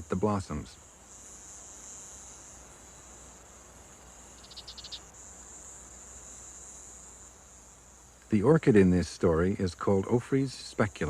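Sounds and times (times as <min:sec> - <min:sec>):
insects trilling: 0:00.0 - 0:11.0
quick insect chirps: 0:00.0 - 0:11.0.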